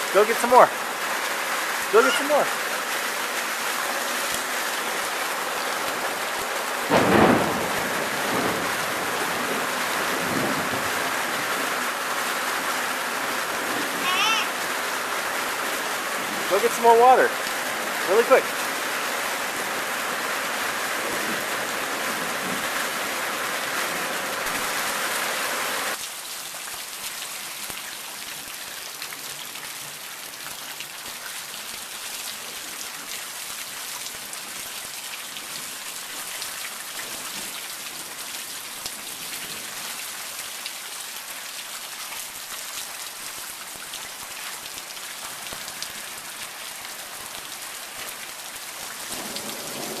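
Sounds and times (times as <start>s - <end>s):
rain and hail hitting ground: 0.0s - 50.0s.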